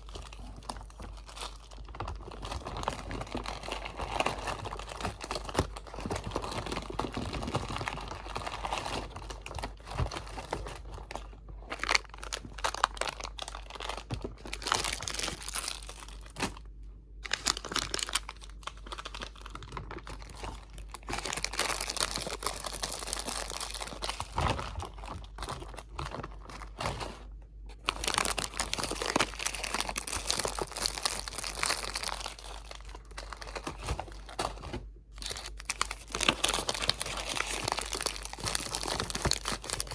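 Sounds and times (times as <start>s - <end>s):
crinkly material crumpling: 0.0s - 39.9s.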